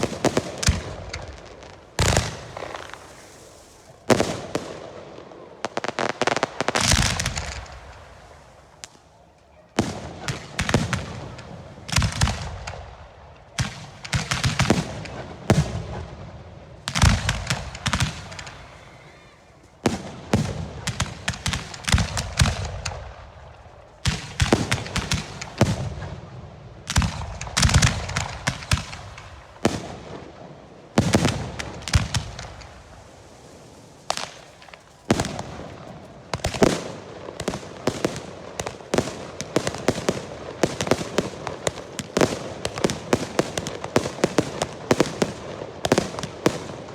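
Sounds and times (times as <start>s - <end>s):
festival rockets bursting: 0.0s - 46.9s.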